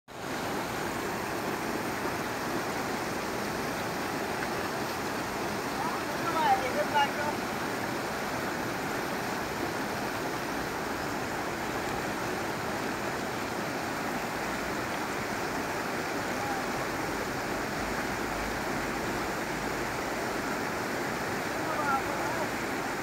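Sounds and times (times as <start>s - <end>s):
river water rushing: 0.1s - 23.0s.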